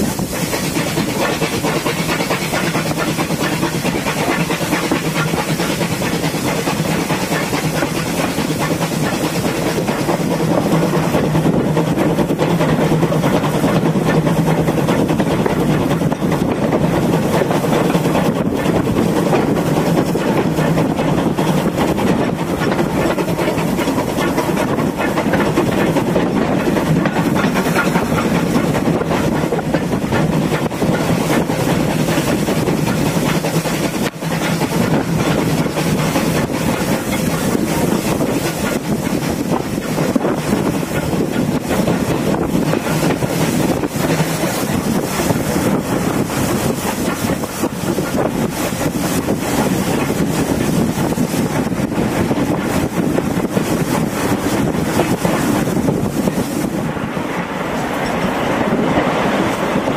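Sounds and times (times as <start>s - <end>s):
train wheels on rails: 0.0s - 59.9s
wind buffeting microphone: 0.0s - 59.9s.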